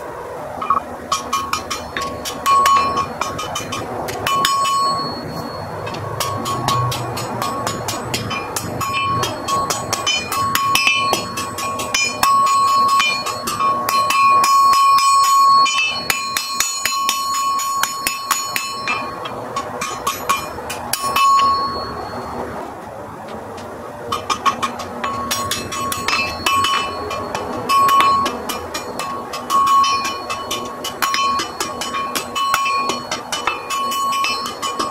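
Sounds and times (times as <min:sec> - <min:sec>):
hammer striking iron on anvil: 0:00.6 - 0:22.2, 0:24.1 - 0:34.9.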